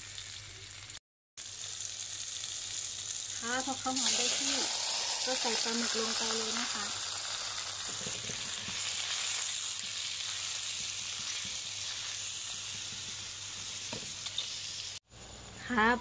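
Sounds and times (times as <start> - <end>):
squid sizzling in hot oil: 0.0 - 15.4.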